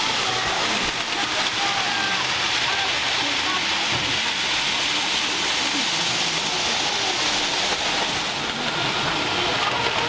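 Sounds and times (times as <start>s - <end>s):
faint voices: 0.0s - 10.0s
model trains running on track: 0.0s - 10.0s.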